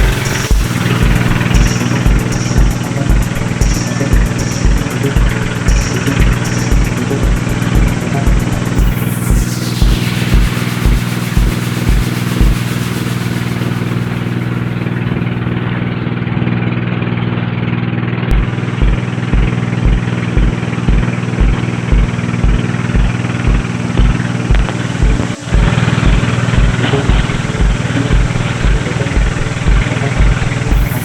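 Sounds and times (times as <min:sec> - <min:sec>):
deep repeating thump: 0:00.0 - 0:12.7, 0:18.3 - 0:31.0
motorboat engine running: 0:00.0 - 0:31.0.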